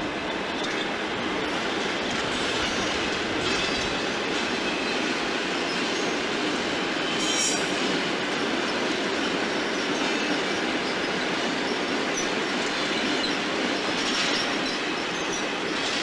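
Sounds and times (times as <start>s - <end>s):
freight train rumbling past: 0.0s - 16.0s
train wheel squeal: 0.0s - 16.0s.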